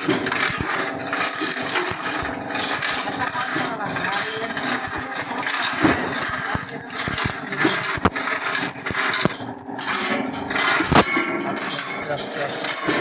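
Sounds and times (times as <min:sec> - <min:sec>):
hand tools clicking on metal: 0:00.0 - 0:13.0
steady background din: 0:00.0 - 0:13.0.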